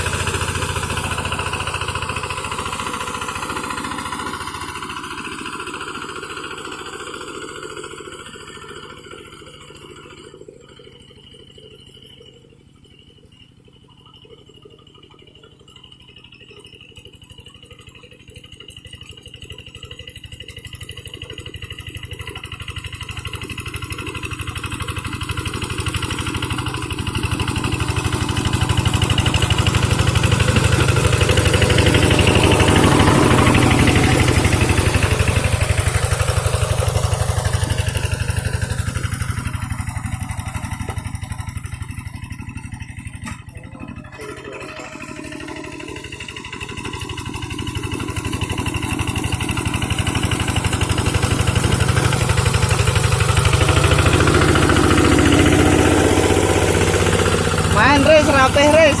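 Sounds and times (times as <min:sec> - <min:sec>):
hand tractor diesel engine running: 0:00.0 - 0:59.0.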